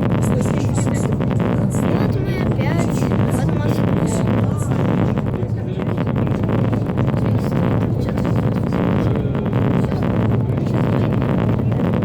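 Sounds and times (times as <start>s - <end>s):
hydrofoil engines droning: 0.0s - 12.0s
wind buffeting microphone: 0.0s - 12.0s.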